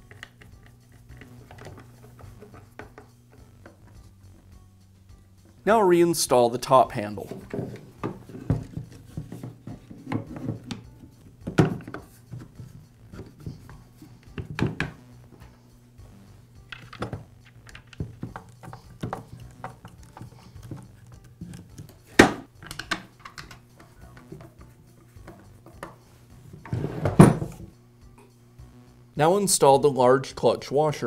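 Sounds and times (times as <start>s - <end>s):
quiet background music: 0.0s - 31.0s.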